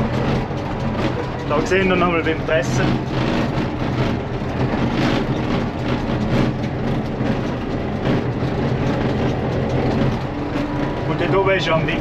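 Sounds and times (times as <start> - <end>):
baler knocking and clatter: 0.0 - 12.0
tractor engine running under load: 0.0 - 12.0.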